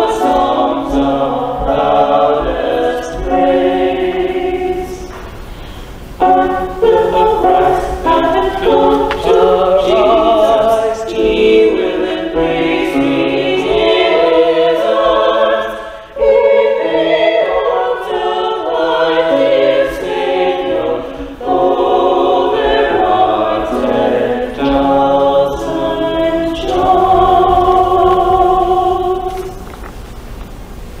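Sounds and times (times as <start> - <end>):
mixed choir singing: 0.0 - 5.4, 6.1 - 29.8.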